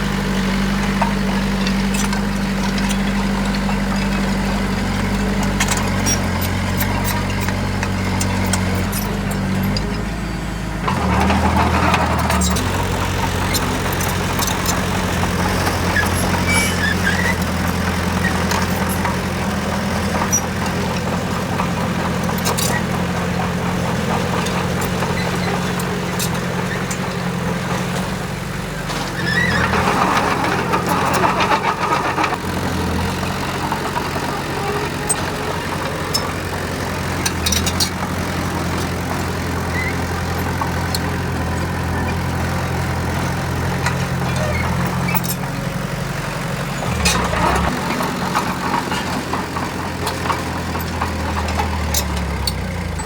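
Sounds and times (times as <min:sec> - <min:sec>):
diesel machinery engine running: 0:00.0 - 0:53.0.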